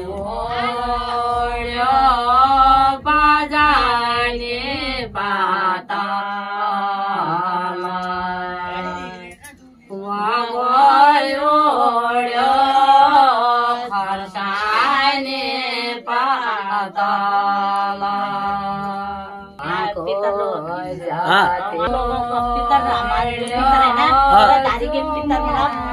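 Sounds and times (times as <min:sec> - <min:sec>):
women singing unaccompanied: 0:00.0 - 0:25.9.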